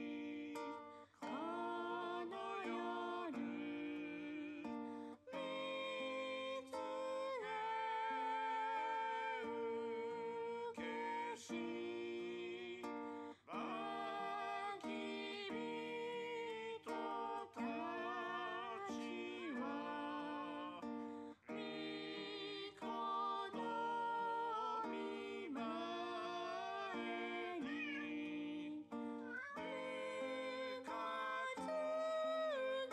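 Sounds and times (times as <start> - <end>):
person singing: 0.0 - 32.9
plucked acoustic guitar: 0.0 - 32.9.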